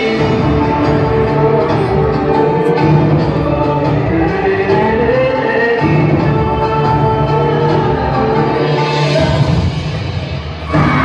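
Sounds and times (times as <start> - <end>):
orchestral song over loudspeakers: 0.0 - 11.0.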